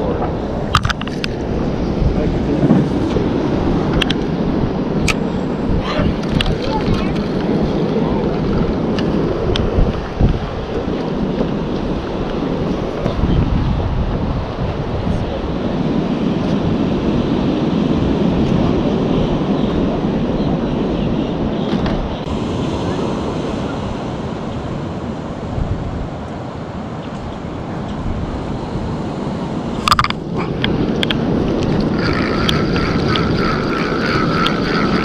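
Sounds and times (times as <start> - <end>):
ocean surf: 0.0 - 35.0
wind buffeting microphone: 0.0 - 35.0.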